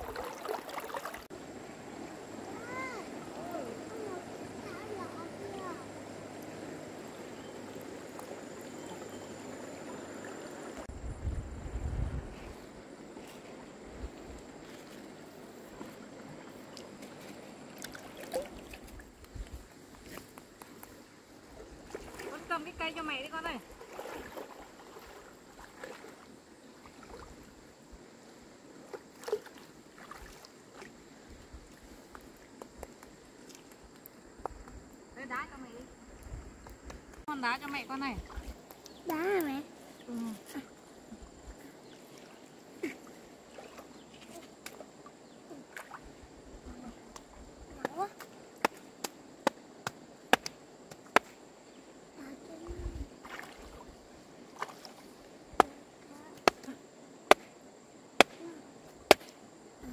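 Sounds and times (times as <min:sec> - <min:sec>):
stream water splashing: 0:00.0 - 0:10.9, 0:12.6 - 0:51.7, 0:52.6 - 0:58.4.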